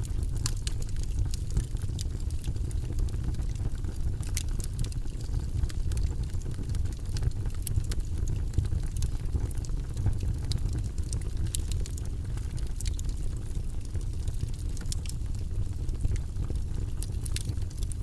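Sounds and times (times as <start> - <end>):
fire crackling and popping: 0.0 - 18.0
low fire rumble: 0.0 - 18.0.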